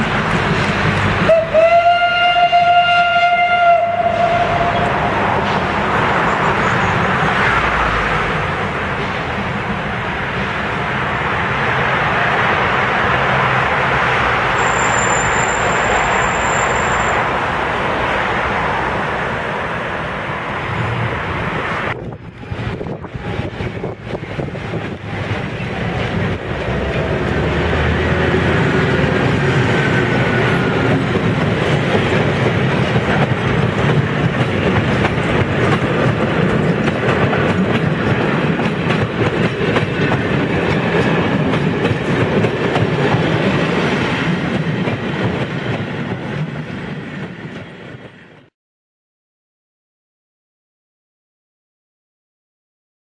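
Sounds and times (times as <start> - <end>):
diesel locomotive passing: 0.0 - 48.5.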